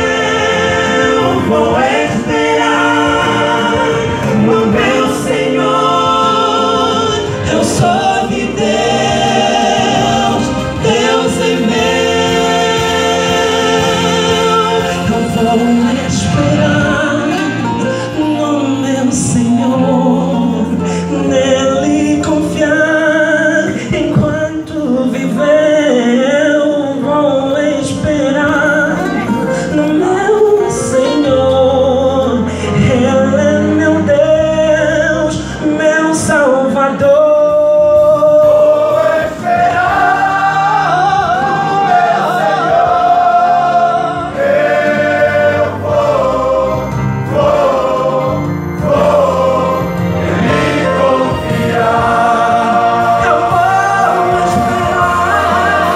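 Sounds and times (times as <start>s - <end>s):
men's choir singing gospel: 0.0s - 55.9s.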